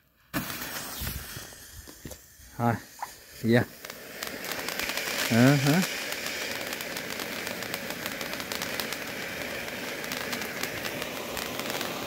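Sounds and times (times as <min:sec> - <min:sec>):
firework fountain hissing and crackling: 0:00.0 - 0:12.0.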